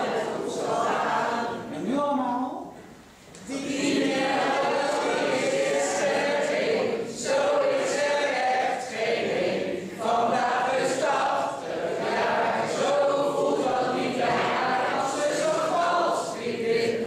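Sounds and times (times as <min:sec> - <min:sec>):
group singing together: 0:00.0 - 0:01.8, 0:03.4 - 0:17.0.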